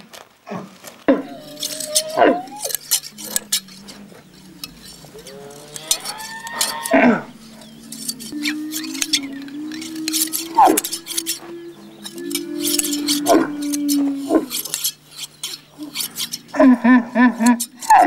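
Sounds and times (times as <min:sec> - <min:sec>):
camel calling: 0:01.0 - 0:18.0
hand shears clicking: 0:01.1 - 0:18.0.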